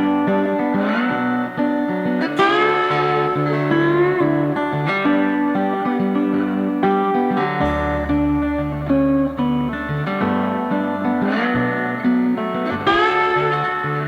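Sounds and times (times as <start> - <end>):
instrumental guitar music with bass: 0.0 - 14.0.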